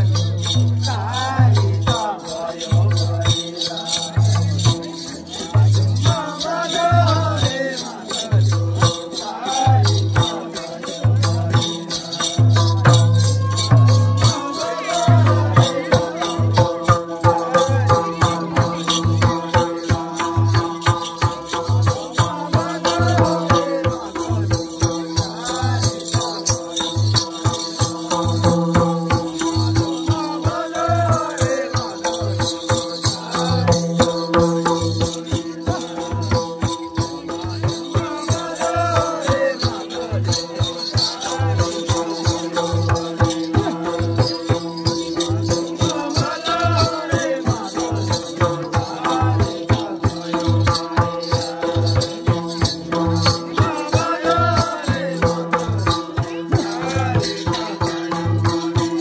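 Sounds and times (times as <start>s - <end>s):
music with low beat and fast percussion: 0.0s - 59.0s.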